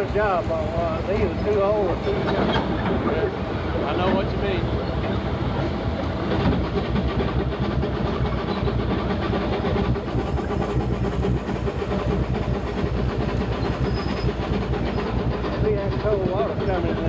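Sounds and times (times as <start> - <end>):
train rumble: 0.0 - 17.0
wheels clattering on rail: 0.0 - 17.0.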